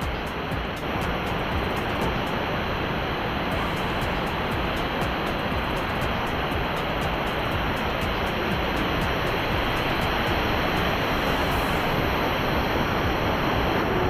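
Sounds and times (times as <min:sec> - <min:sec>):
small waterfall rushing: 0:00.0 - 0:14.0.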